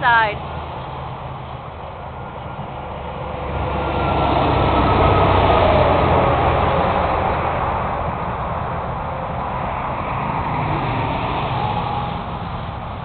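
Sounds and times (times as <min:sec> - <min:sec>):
highway traffic from moving car: 0:00.0 - 0:13.0
vehicle passing close by: 0:00.0 - 0:13.0.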